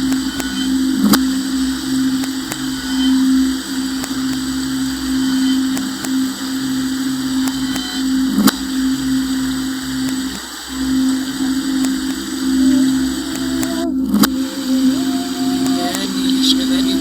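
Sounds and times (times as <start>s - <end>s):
pulsing low electronic layer: 0.0s - 17.0s
sharp clicks: 0.0s - 17.0s
steady low electronic hum: 0.0s - 17.0s.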